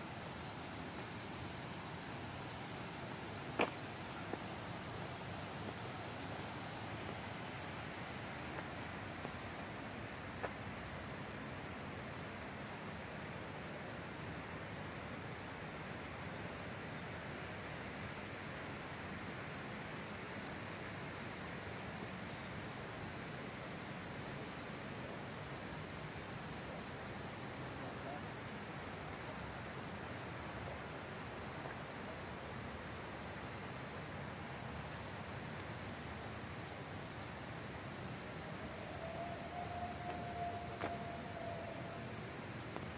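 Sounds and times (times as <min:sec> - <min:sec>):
background hiss: 0:00.0 - 0:42.9
insects trilling: 0:00.0 - 0:42.9.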